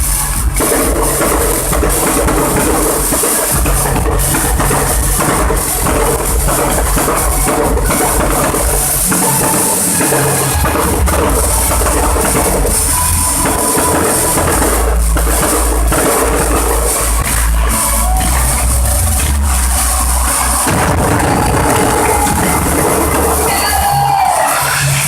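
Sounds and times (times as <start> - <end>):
loud music with drums and bass: 0.0 - 25.0.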